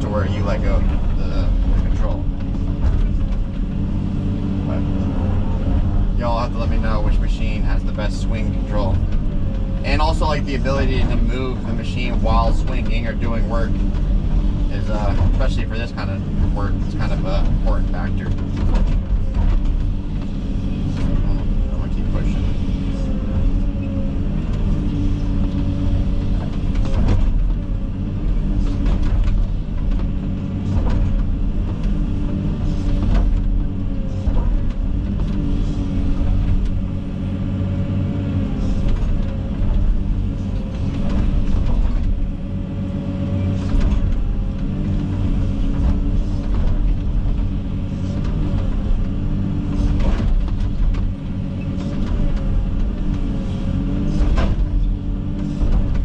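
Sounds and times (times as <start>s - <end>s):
excavator diesel engine running: 0.0s - 56.0s
hydraulic whine: 0.0s - 56.0s.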